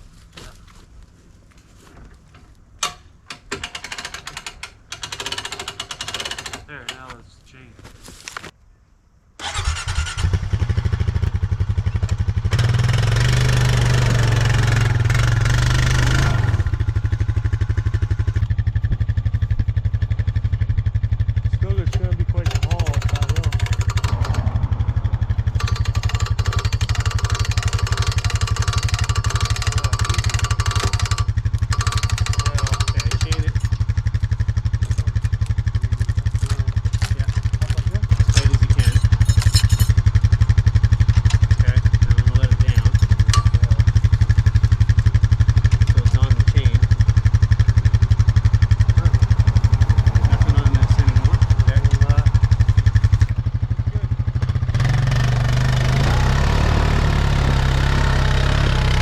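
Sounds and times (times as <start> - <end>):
atv engine running: 9.4 - 59.0.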